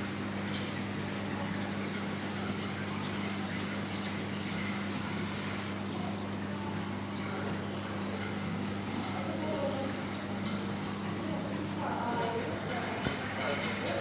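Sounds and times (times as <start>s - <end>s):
machinery hum with electric buzz: 0.0s - 14.0s.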